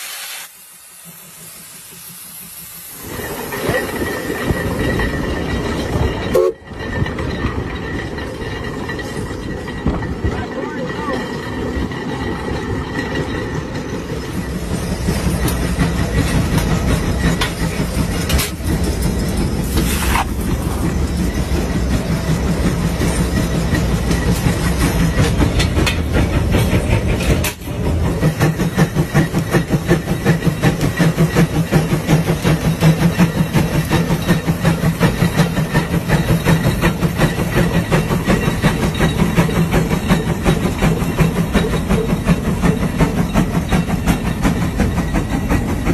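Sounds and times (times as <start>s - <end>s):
old tractor engine chugging: 6.9s - 45.9s.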